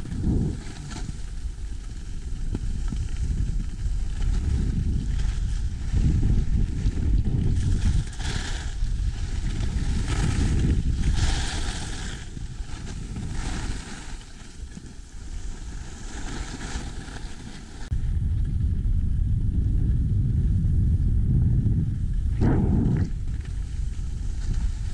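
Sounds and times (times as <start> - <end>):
wind buffeting microphone: 0.0 - 13.9, 17.8 - 24.9
skis scraping over packed snow: 0.0 - 18.5, 22.0 - 24.9.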